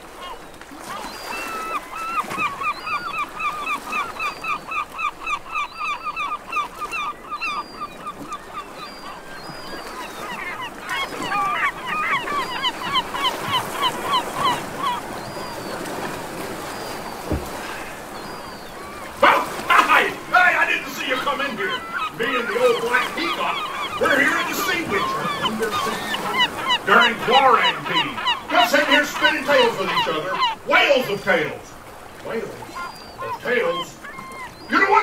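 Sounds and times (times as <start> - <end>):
birds honking: 0.0 - 35.0.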